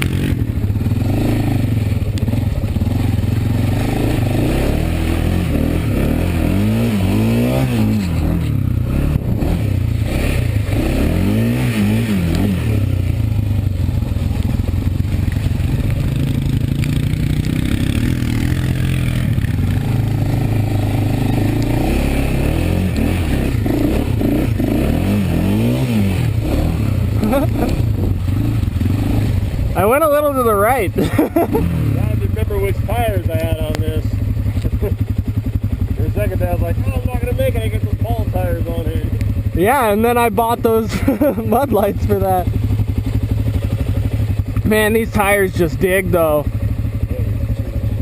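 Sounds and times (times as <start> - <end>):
atv engine revving: 0.0 - 48.0.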